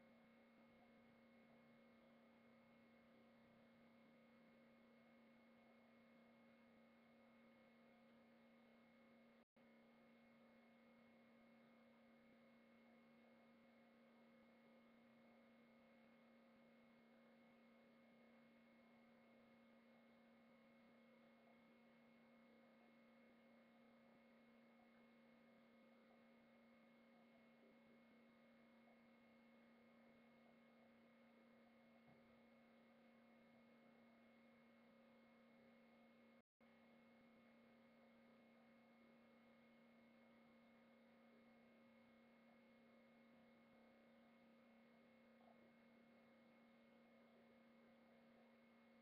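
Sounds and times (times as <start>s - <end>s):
faint electrical hum: 0.0s - 49.0s.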